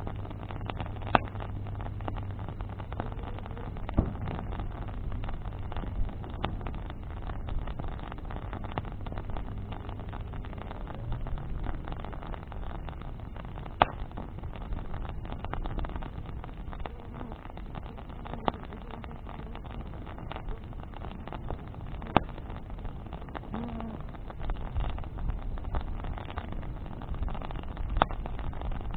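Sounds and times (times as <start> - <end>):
bonfire low rush: 0.0 - 28.9
fire crackling and popping: 0.0 - 28.9.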